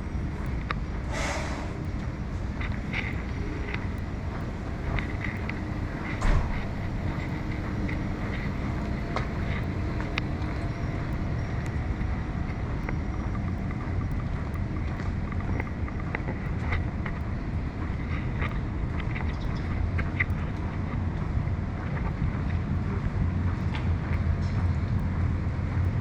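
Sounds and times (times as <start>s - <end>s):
low street rumble: 0.0s - 26.0s
wind buffeting microphone: 0.0s - 26.0s.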